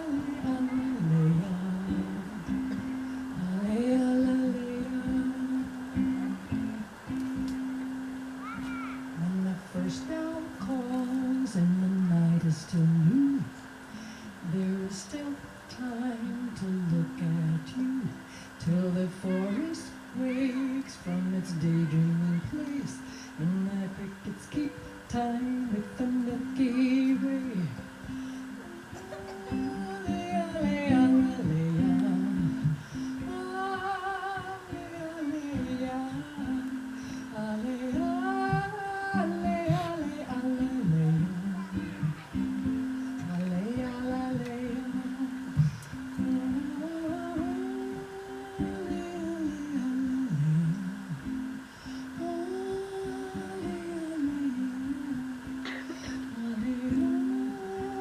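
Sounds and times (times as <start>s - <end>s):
person singing wavering notes: 0.0s - 58.0s
plucked guitar: 0.0s - 58.0s
voices humming a slow melody: 0.0s - 58.0s.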